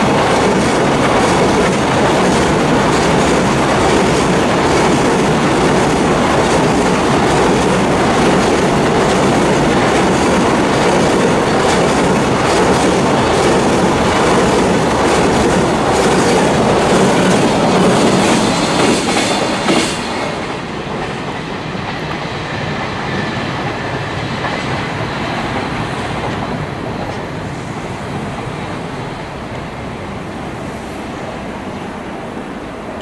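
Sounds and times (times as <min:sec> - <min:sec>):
train wheels clacking on rail joints: 0:00.0 - 0:30.5
freight train passing: 0:00.0 - 0:33.0.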